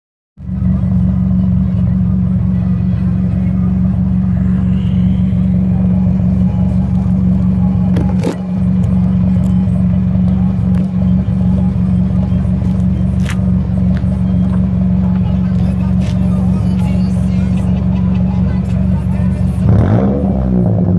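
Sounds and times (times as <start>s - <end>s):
car exhaust droning: 0.4s - 20.9s.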